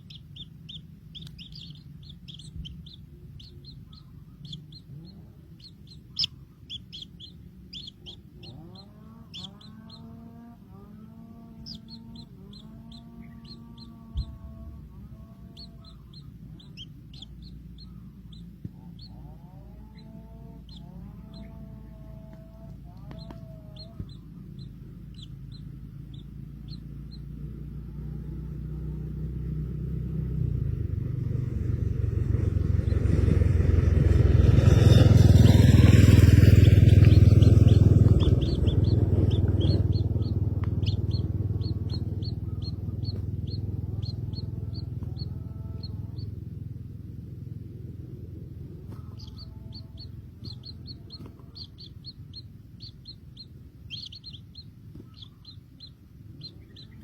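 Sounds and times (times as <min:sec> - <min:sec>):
small birds chirping: 0:00.0 - 0:57.0
vehicle engine passing: 0:00.0 - 0:57.0.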